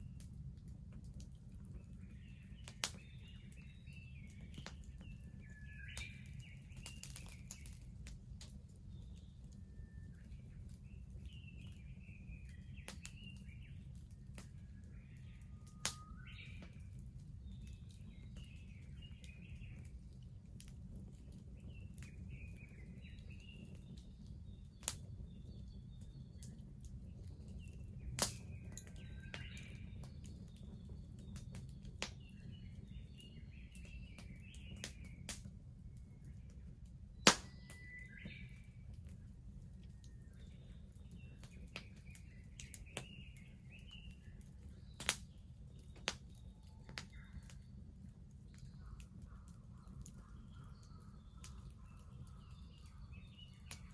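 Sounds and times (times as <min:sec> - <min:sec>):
small birds chirping: 0:00.0 - 0:53.9
wood fire crackling: 0:00.0 - 0:53.9.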